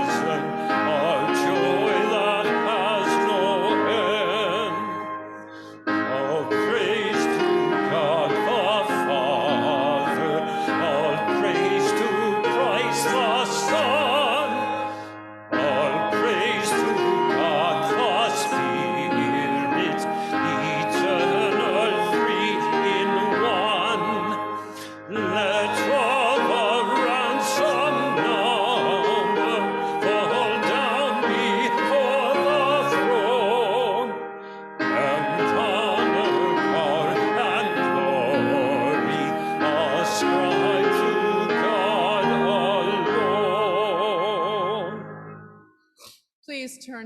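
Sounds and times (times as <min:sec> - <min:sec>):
sustained church accompaniment: 0:00.0 - 0:46.1
person singing with vibrato: 0:00.0 - 0:46.6.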